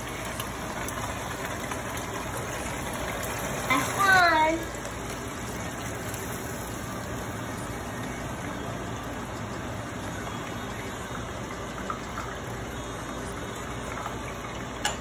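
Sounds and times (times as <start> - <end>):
hot oil sizzling and bubbling: 0.0 - 15.0.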